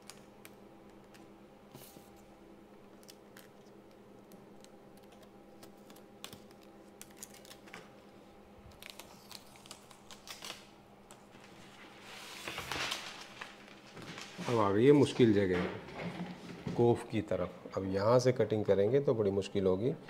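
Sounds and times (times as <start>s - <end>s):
steady faint hum: 0.0s - 20.0s.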